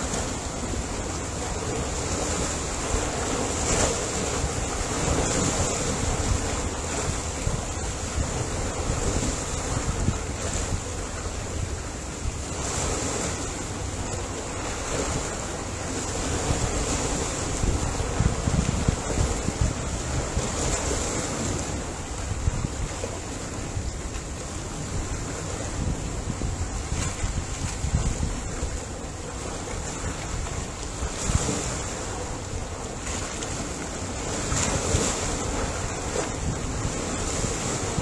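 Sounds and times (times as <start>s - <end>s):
waves washing onto shore: 0.0s - 38.0s
wind rumble on microphone: 0.0s - 38.0s.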